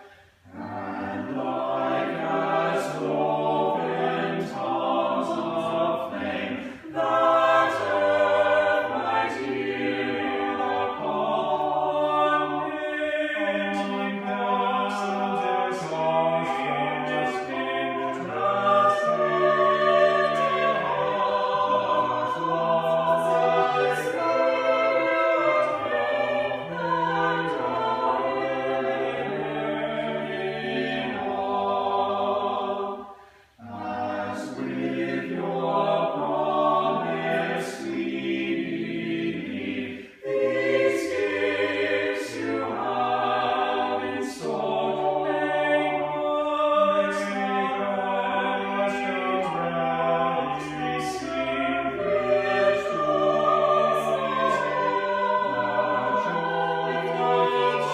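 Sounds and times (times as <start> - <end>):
choir singing: 0.0 - 57.9.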